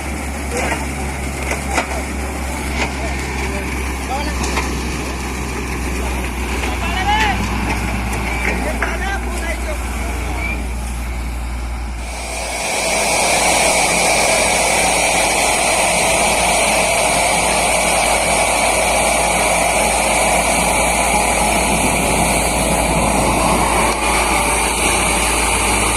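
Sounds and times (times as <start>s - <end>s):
drilling rig engine and compressor: 0.0s - 25.9s.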